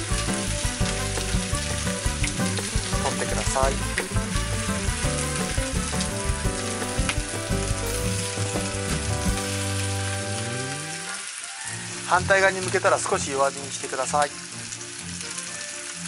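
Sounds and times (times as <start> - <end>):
chicken frying in oil: 0.0 - 16.0.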